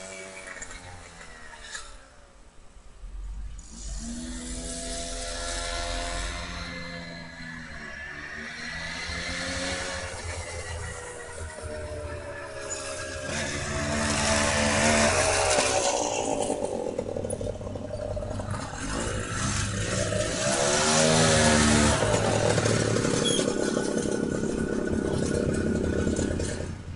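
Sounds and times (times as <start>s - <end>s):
small car engine buzzing: 0.0s - 2.5s, 3.2s - 26.9s.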